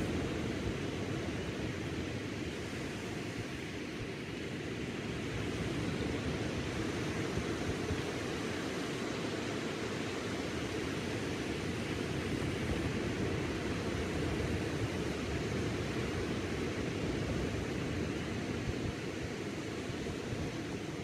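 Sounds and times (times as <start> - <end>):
waves breaking on beach: 0.0 - 21.0.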